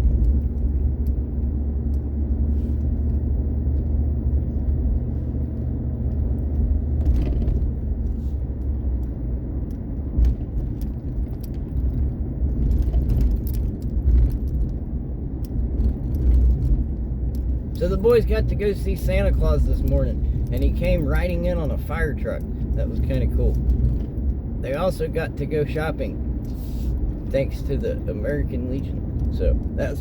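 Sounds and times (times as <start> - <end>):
vehicle engine and tyre rumble: 0.0 - 30.0
vehicle rattling on rough road: 0.0 - 30.0.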